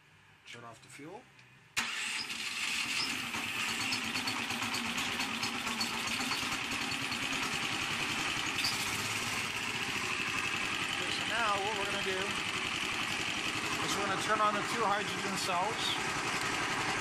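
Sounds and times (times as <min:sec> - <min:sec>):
single-cylinder engine running: 0:01.8 - 0:17.0.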